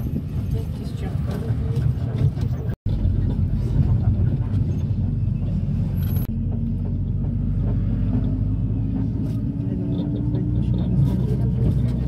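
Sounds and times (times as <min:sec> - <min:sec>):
minibus engine and road rumble: 0:00.0 - 0:12.0.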